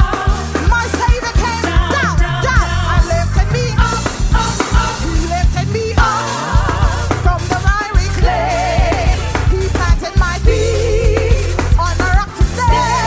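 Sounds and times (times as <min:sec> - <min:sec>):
gospel band music: 0:00.0 - 0:13.0
lead singer with vocal group: 0:00.0 - 0:13.0.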